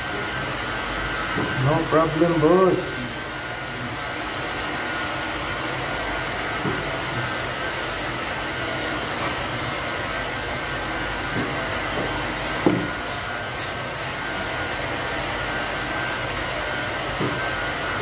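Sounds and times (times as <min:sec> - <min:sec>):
air machine whooshing hum: 0:00.0 - 0:18.0.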